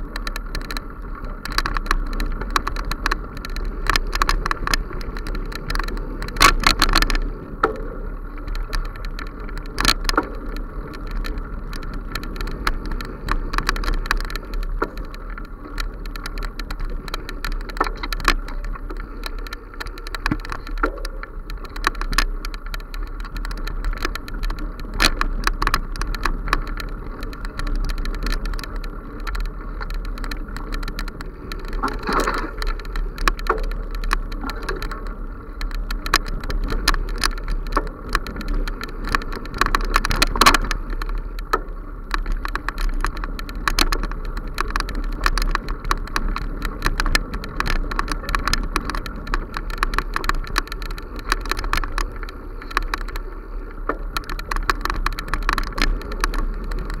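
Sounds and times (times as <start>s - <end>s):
camera handling rumble: 0.0s - 57.0s.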